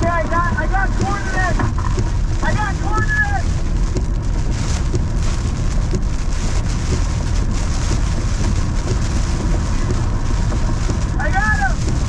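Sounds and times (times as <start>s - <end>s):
heavy rain: 0.0s - 12.0s
strong wind rumbling: 0.0s - 12.0s.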